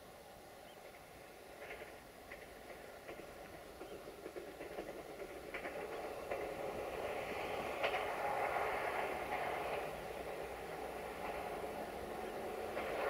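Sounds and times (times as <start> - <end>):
diesel train running noise: 0.0 - 13.0
wheels clicking on rails: 0.7 - 13.0.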